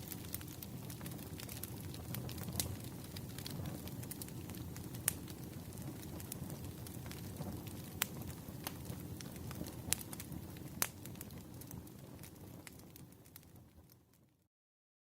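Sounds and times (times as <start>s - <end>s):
burning logs rumbling: 0.0s - 14.1s
fire popping: 0.0s - 14.3s.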